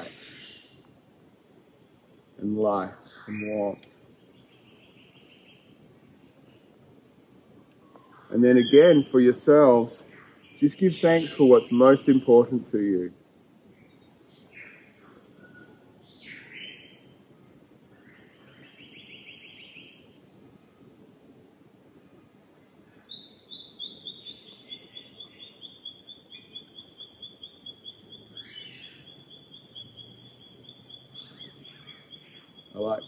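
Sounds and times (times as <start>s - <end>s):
bird trill: 0.0s - 0.9s, 1.8s - 5.8s, 7.8s - 17.2s, 17.9s - 33.0s
faint outdoor background noise: 0.0s - 33.0s
wild birds chirping: 0.0s - 33.0s.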